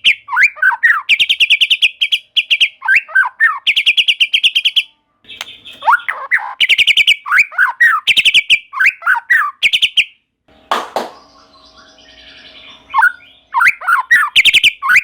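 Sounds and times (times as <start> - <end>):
bird singing trills and whistles: 0.0 - 10.2, 11.1 - 15.0.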